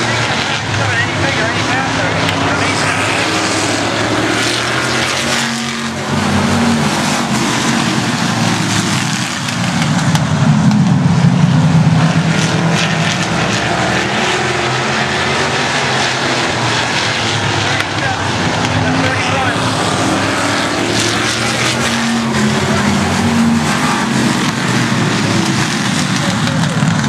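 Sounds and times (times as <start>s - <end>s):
race car engines: 0.0s - 27.0s.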